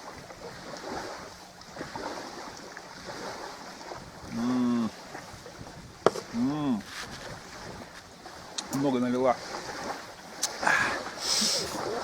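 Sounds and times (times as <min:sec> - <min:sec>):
steady wind: 0:00.0 - 0:12.0
water lapping on shore: 0:00.0 - 0:12.0
wind buffeting microphone: 0:00.0 - 0:12.0.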